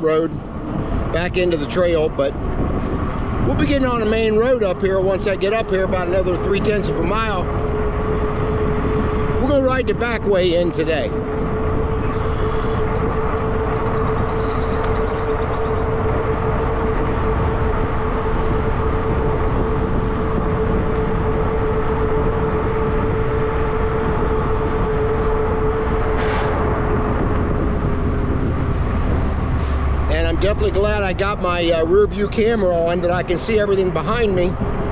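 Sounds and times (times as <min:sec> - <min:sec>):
tire rolling noise: 0:00.0 - 0:34.9
wind rumble: 0:00.0 - 0:34.9.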